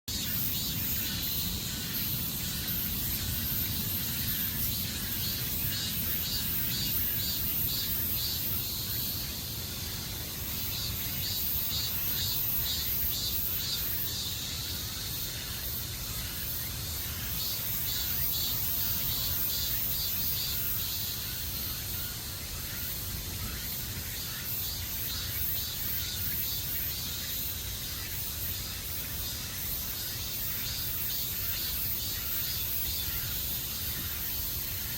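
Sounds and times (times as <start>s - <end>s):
high-pitched insect hiss: 0.1s - 34.9s
insects chirping in trills: 0.1s - 34.9s.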